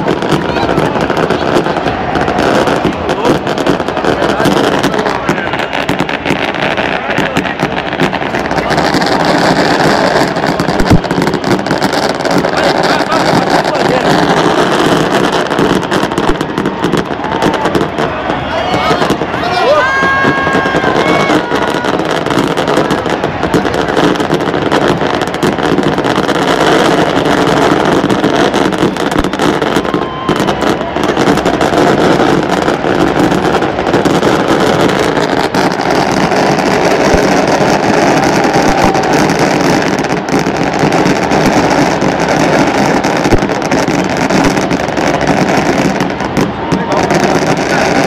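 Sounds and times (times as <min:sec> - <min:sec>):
stadium crowd cheering and chanting: 0:00.0 - 0:48.0.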